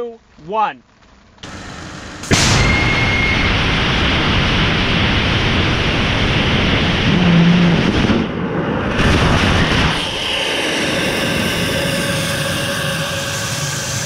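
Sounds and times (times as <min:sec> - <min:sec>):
rocket engine roaring: 0:01.4 - 0:14.0.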